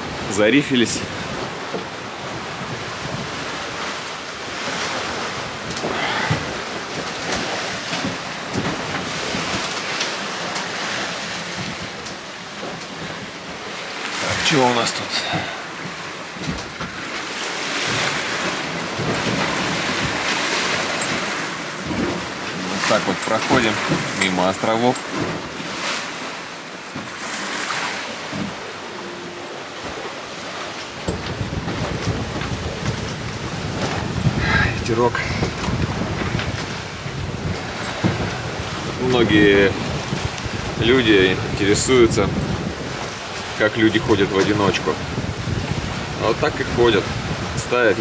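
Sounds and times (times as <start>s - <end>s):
wind and sea rushing: 0.0s - 48.0s
wind buffeting microphone: 0.0s - 48.0s.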